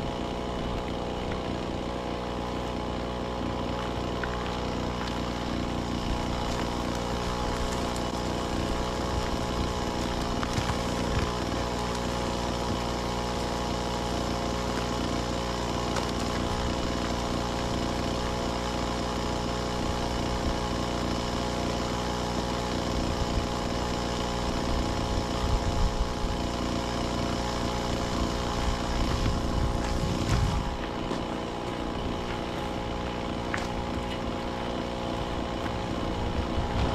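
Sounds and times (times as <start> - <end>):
engine running steadily: 0.0 - 36.9.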